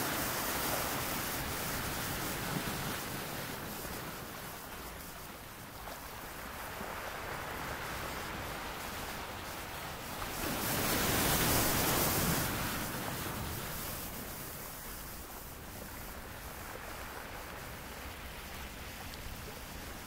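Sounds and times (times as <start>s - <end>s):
foam washing on shore: 0.0s - 20.0s
ocean waves breaking: 0.0s - 20.0s.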